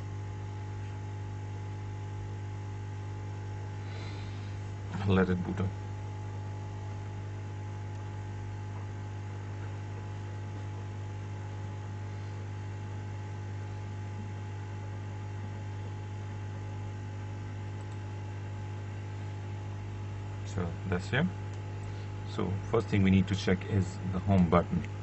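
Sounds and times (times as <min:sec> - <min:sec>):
low mains hum: 0:00.0 - 0:25.0.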